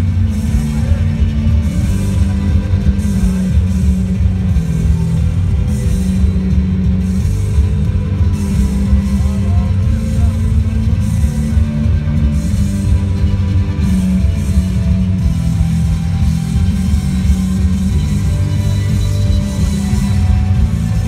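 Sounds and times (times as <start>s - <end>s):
loud rock music over loudspeakers: 0.0s - 21.0s.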